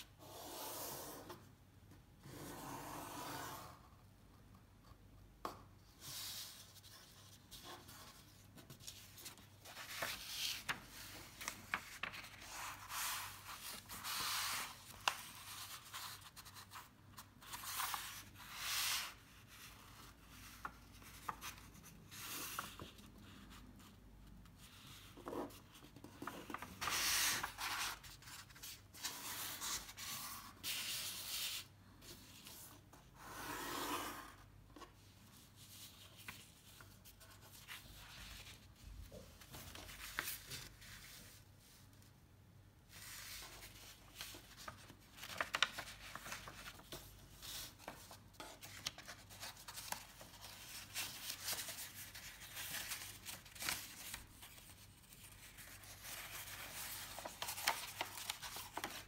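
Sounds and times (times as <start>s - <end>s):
paper being folded by hand: 6.0s - 33.6s, 34.8s - 42.0s, 42.9s - 59.0s.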